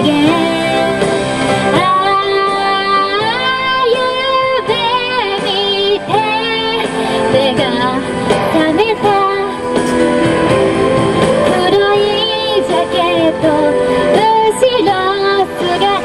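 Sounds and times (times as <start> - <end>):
instrumental backing music: 0.0 - 16.0
woman singing into a microphone: 0.0 - 16.0.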